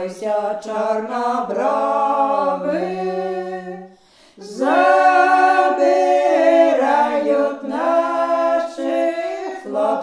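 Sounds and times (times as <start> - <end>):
women singing in harmony: 0.0 - 10.0.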